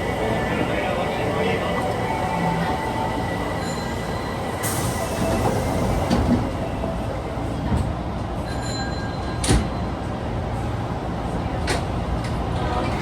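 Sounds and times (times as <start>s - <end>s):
subway wheels rumbling: 0.0s - 13.0s.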